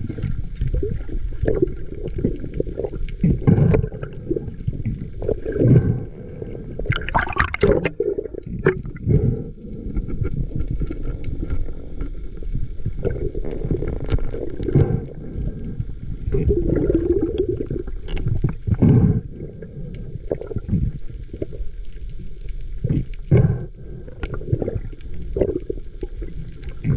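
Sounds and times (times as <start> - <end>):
muffled underwater water rushing: 0.0 - 26.9.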